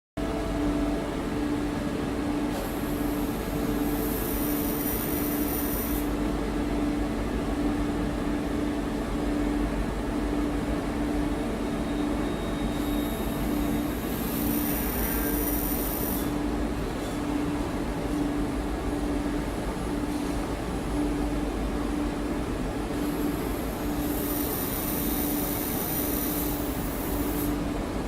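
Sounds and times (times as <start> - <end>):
machinery hum: 0.2 - 28.0.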